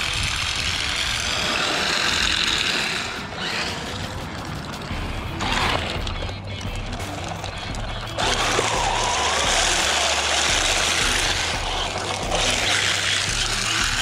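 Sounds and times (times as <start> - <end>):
rc car electric motor running: 0.0 - 14.0
rock background music: 0.0 - 14.0.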